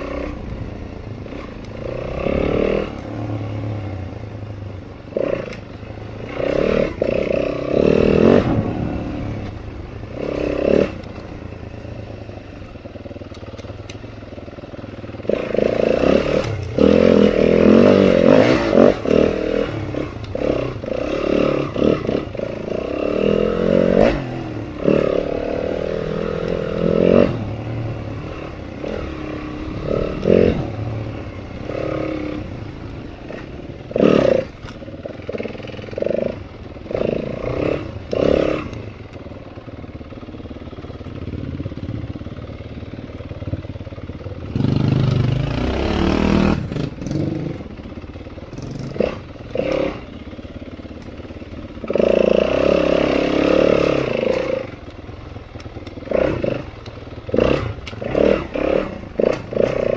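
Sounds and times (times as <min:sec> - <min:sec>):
dirt bike engine revving: 0:00.0 - 0:13.3, 0:14.6 - 0:59.9.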